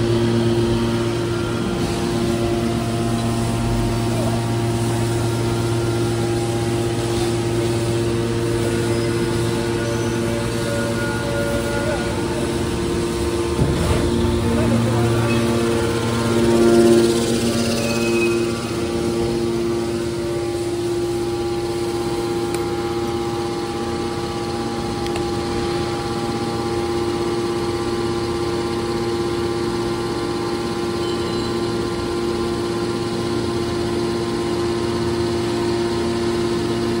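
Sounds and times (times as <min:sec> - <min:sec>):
hydraulic pump motor humming: 0:00.0 - 0:37.0.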